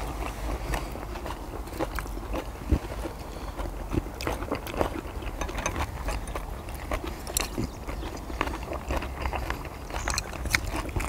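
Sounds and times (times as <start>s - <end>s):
close-up chewing and biting: 0.0s - 11.0s
small crunches: 0.0s - 11.0s.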